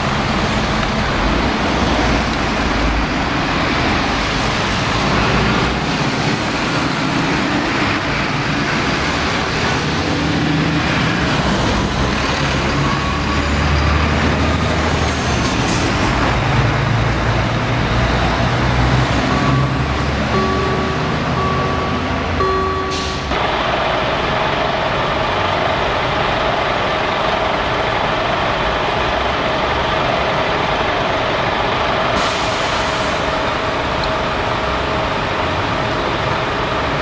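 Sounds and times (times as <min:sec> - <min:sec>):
diesel rail vehicles rumbling: 0:00.0 - 0:37.0
traffic-like noise: 0:00.0 - 0:37.0.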